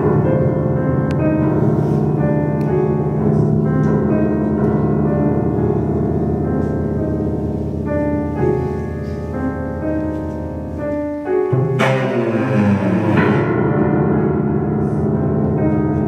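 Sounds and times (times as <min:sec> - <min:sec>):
cellos and piano chamber music: 0:00.0 - 0:16.0.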